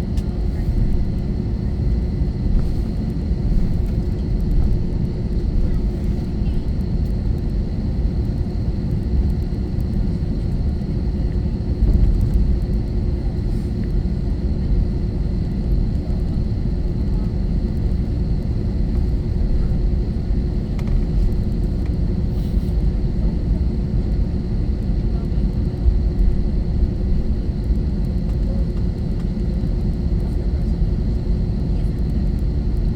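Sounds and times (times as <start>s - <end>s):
airplane cabin engine drone: 0.0s - 32.9s.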